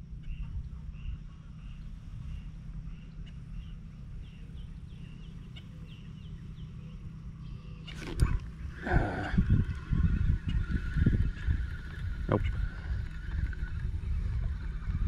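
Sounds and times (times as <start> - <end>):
steady low rumble: 0.0 - 15.0
bird calling: 0.1 - 15.0.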